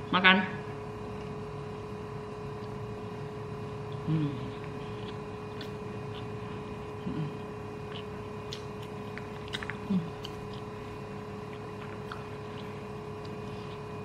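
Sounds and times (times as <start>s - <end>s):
electrical hum: 0.0s - 14.0s
soft chewing: 2.2s - 14.0s.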